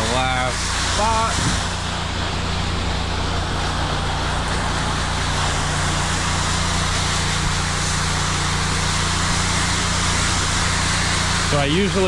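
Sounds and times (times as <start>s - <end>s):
pressure washer engine running: 0.0s - 12.0s
spray hissing: 0.0s - 12.0s.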